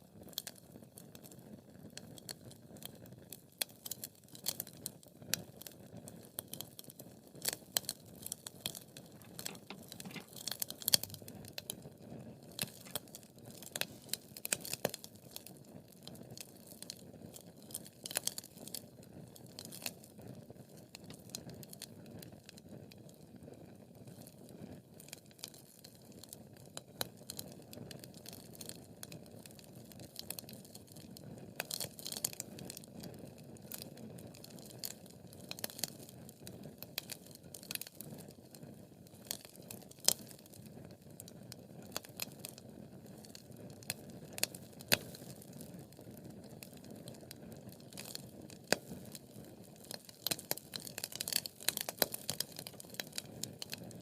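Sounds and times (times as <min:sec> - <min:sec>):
wood fire crackling: 0:00.2 - 0:54.0.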